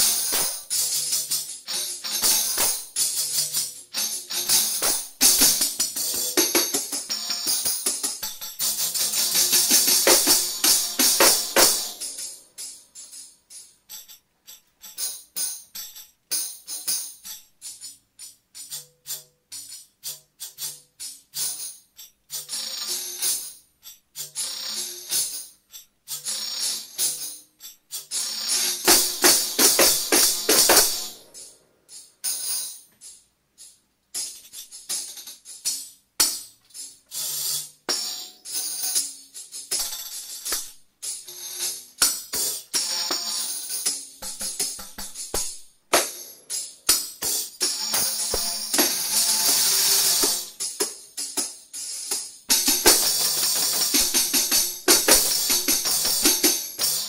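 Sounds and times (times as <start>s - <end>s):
tambourines jingling: 0.0s - 18.8s, 21.0s - 57.0s
shaken tambourine rolls: 0.0s - 57.0s.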